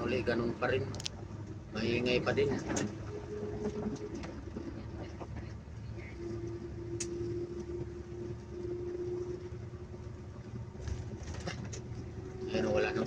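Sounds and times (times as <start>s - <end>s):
bus engine and tyres rumbling: 0.0s - 13.0s
steady hum: 0.0s - 13.0s.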